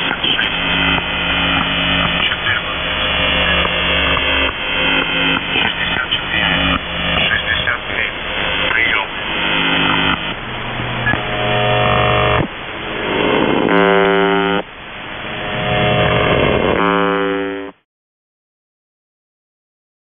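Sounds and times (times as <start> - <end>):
harsh radio buzzes: 0.0 - 17.8
radio static and interference: 0.0 - 17.8.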